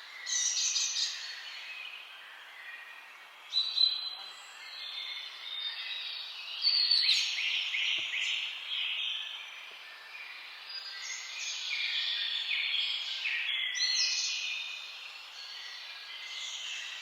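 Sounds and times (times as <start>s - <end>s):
faint background hiss: 0.0s - 17.0s
songbirds singing and calling: 0.0s - 17.0s.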